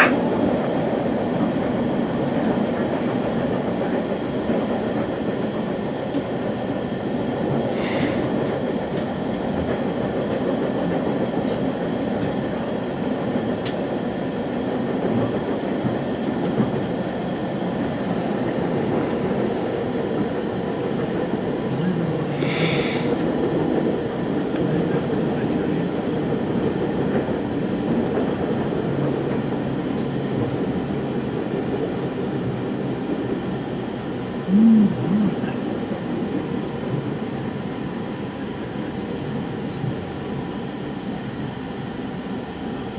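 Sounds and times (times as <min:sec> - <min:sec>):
train rumbling: 0:00.0 - 0:42.9.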